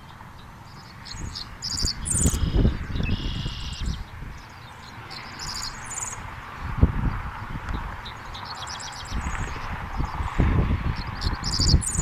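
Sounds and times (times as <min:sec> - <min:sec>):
songbirds chirping: 0:00.0 - 0:12.0
wind rumble on microphone: 0:00.0 - 0:12.0.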